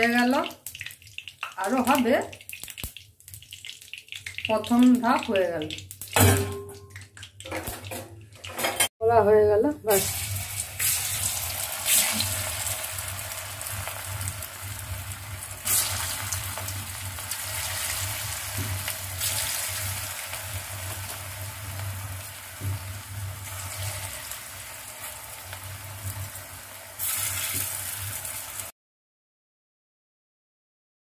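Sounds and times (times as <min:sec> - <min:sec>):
deep-frying sizzle in oil: 0:00.0 - 0:07.4, 0:09.9 - 0:28.7.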